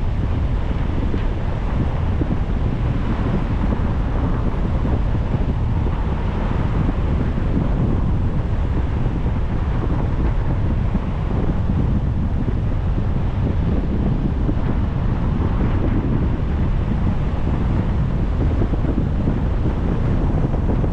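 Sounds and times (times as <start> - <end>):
car road rumble: 0.0 - 20.9
wind buffeting: 0.0 - 20.9.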